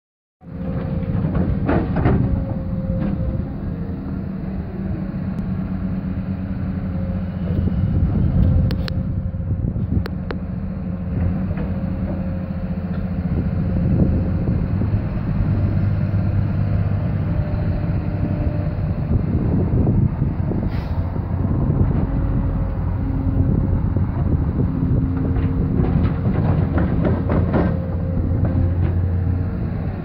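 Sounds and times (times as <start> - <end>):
excavator diesel engine droning: 0.4 - 30.0.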